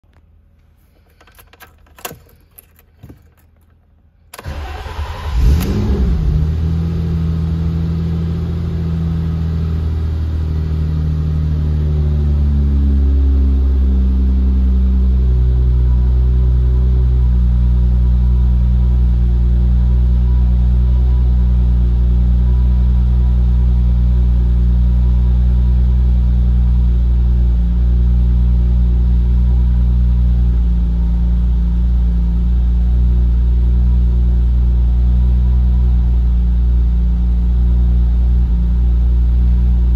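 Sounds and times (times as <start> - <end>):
car engine idling: 0.8 - 39.9.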